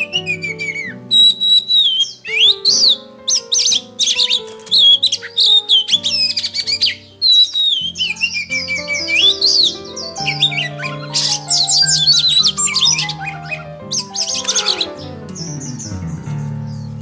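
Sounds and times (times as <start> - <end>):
background music of low notes: 0.0 - 17.0
songbird singing: 0.0 - 17.0.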